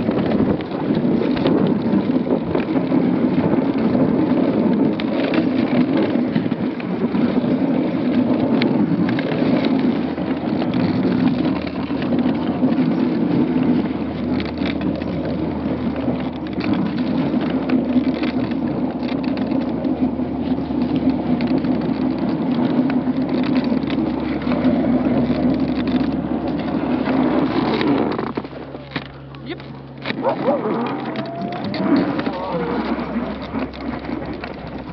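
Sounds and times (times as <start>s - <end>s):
sled knocks and rattles: 0.0s - 34.9s
sled runners scraping on snow: 0.0s - 34.9s.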